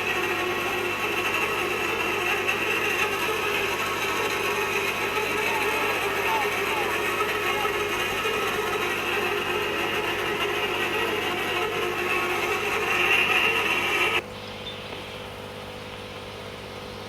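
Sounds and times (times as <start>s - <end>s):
machinery noise: 0.0s - 14.2s
steady hum: 0.0s - 17.0s.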